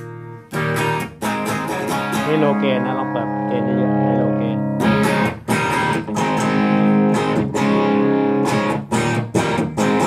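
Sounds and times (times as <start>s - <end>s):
distorted electric guitar chords: 0.0s - 10.0s.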